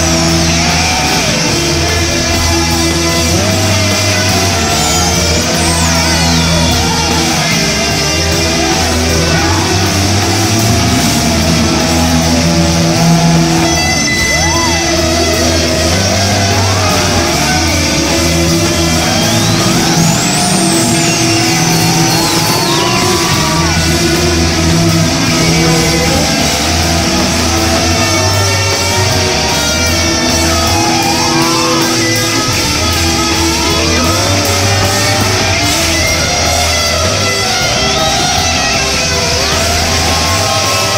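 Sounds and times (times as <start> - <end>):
rock music with guitar: 0.0 - 40.9.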